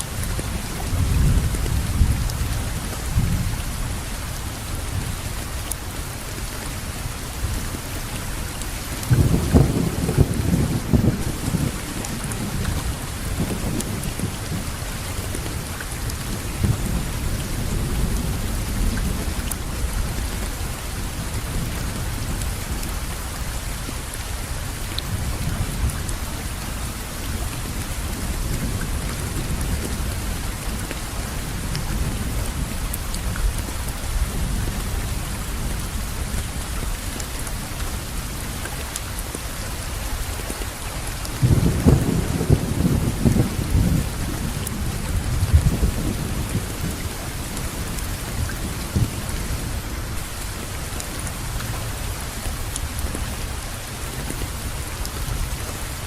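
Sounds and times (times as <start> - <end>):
steady rain falling: 0.0 - 56.0
low rumble of thunder: 0.1 - 5.5, 8.9 - 38.4, 41.2 - 53.5.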